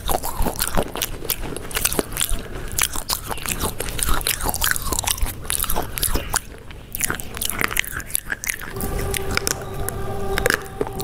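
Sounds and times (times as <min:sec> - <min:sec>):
chewing crunchy food: 0:00.0 - 0:11.0.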